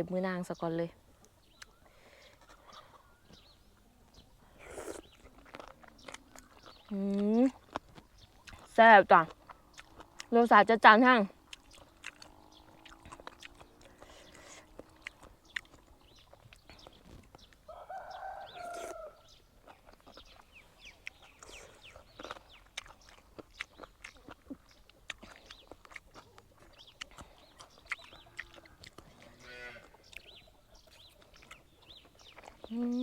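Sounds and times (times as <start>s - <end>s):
chickens clucking: 1.2s - 6.9s, 11.4s - 32.7s.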